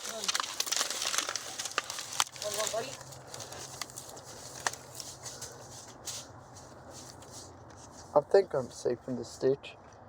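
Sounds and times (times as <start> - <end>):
twigs cracking underfoot: 0.0 - 8.1.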